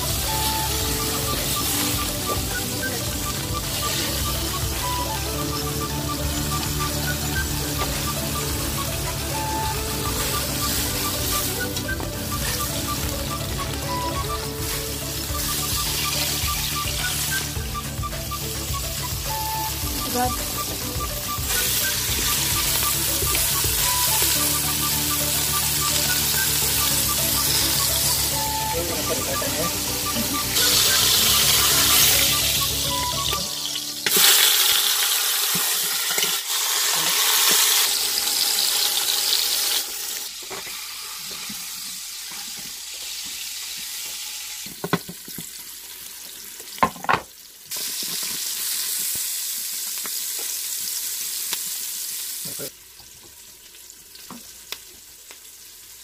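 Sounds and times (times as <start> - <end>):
meat sizzling in hot oil: 0.0 - 56.0.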